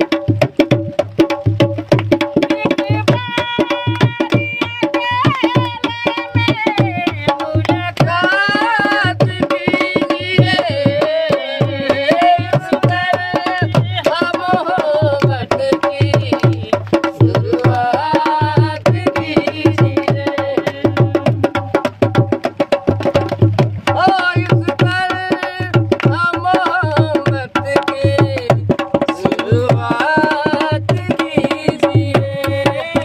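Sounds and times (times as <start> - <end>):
hand drum beating fast: 0.0 - 33.0
man and woman singing: 2.3 - 21.9, 23.9 - 33.0.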